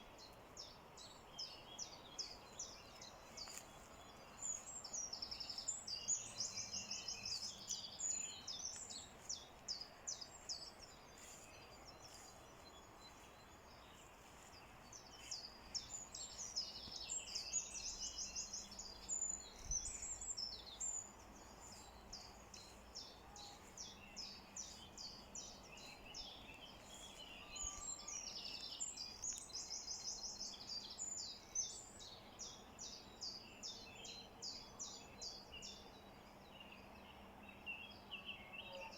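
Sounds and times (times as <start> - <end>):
faint background hiss: 0.0 - 38.9
songbirds chirping and trilling: 0.0 - 38.9.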